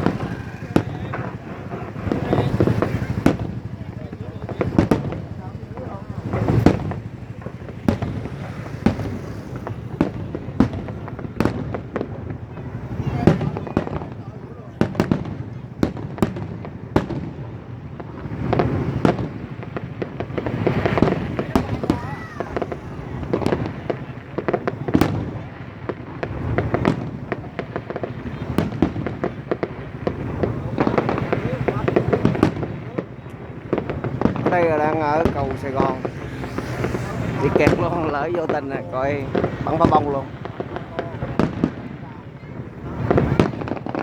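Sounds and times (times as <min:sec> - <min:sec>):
fireworks bangs: 0:00.0 - 0:44.0.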